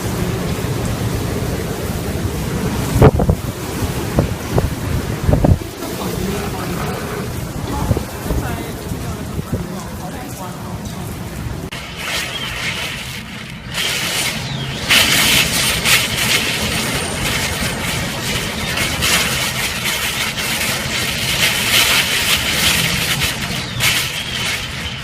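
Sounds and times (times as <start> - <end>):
driving rain: 0.0 - 25.0
gusting wind: 0.0 - 25.0.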